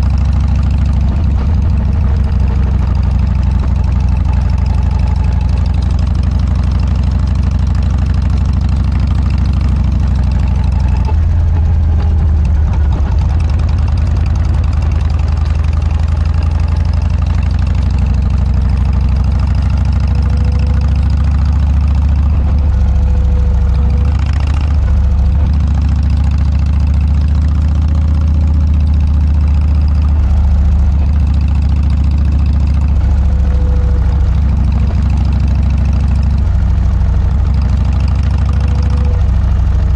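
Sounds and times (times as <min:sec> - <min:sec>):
motorcycle engine deep exhaust: 0:00.0 - 0:39.9.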